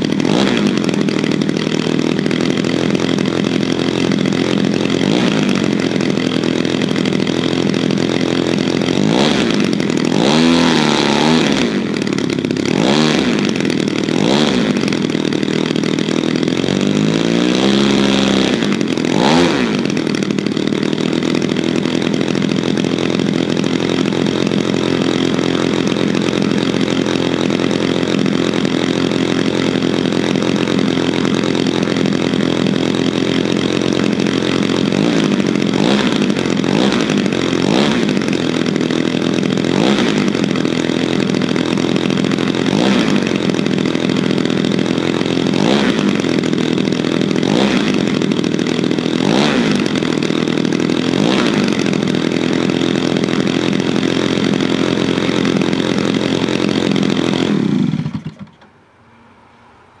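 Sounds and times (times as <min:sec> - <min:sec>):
model plane engine running: 0:00.0 - 0:58.7.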